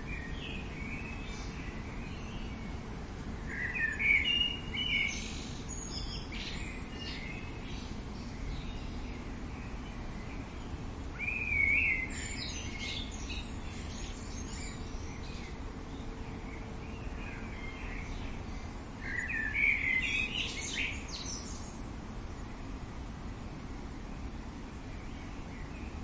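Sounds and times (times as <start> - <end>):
outdoor background hiss: 0.0 - 26.0
songbird chirping: 0.0 - 26.0.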